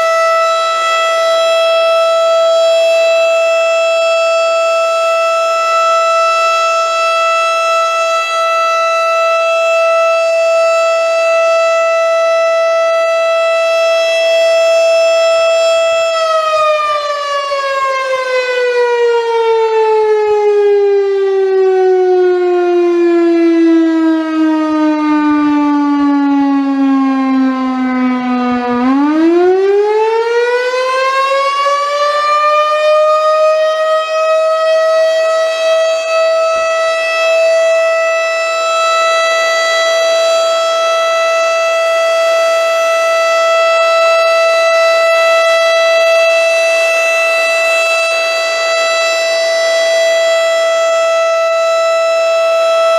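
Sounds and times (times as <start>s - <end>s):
rotating warning siren: 0.0s - 52.9s.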